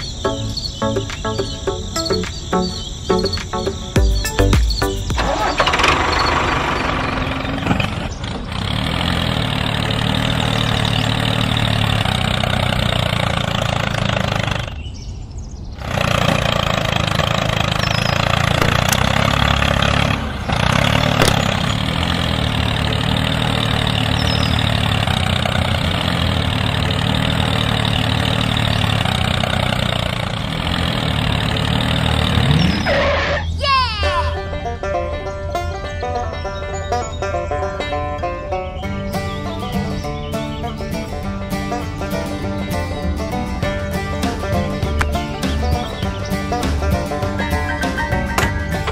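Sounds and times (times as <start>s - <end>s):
tractor engine running: 0.0s - 14.9s, 15.8s - 33.4s, 34.4s - 48.9s.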